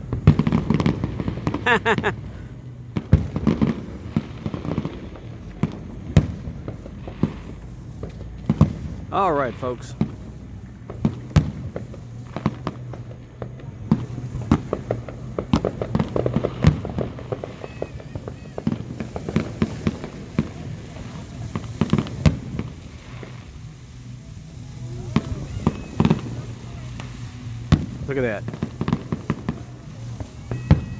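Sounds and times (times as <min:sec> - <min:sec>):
fireworks bangs and pops: 0:00.0 - 0:30.9
loud firework booms: 0:00.0 - 0:30.9.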